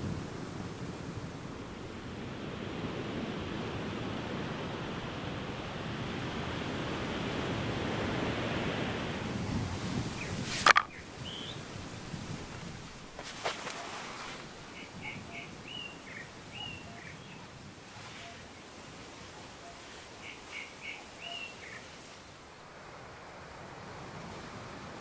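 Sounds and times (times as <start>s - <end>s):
sea surf rushing: 0.0s - 25.0s.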